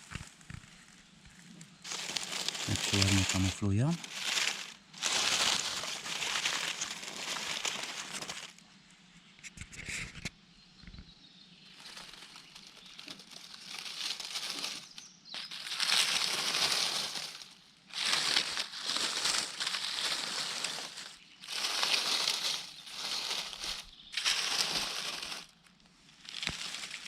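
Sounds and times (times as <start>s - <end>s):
rustling of wet leaf litter: 0.0s - 8.7s, 11.6s - 27.0s.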